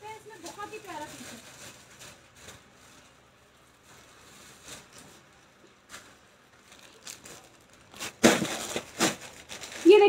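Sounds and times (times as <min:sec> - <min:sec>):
soft handling rustles: 0:00.0 - 0:10.0.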